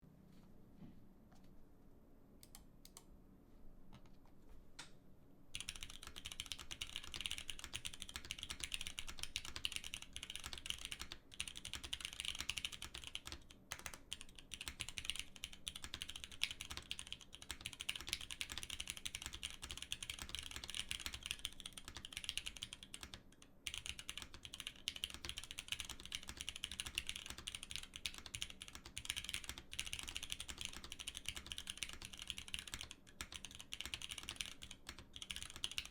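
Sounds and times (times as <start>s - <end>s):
typing on mechanical keyboard: 5.6s - 35.9s.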